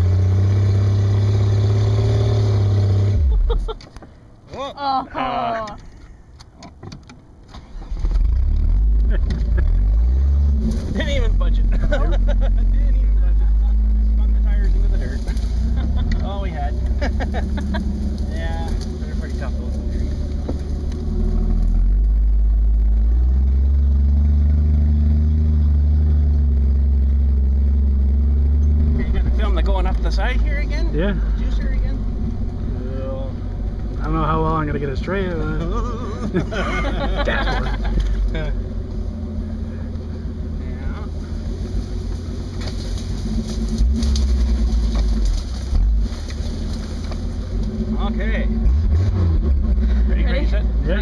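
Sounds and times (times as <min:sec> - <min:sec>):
car engine running: 0:00.0 - 0:04.2, 0:07.6 - 0:51.0.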